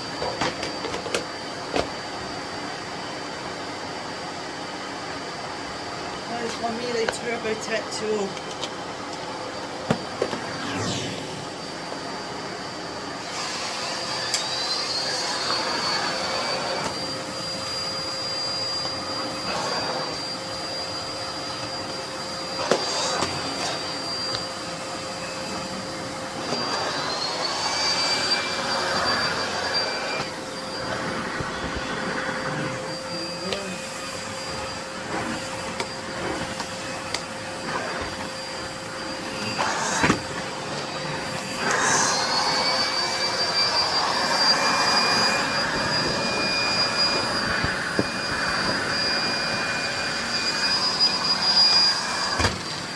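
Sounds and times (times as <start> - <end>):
vacuum cleaner motor whine: 0.0 - 52.9.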